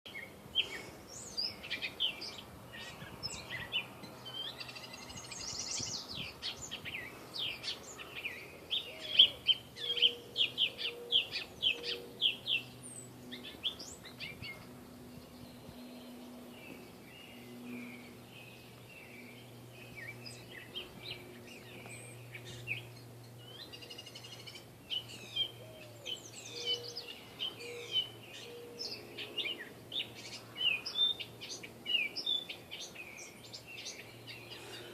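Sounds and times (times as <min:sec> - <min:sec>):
catbird singing: 0:00.1 - 0:34.9
faint low hum: 0:00.1 - 0:34.9.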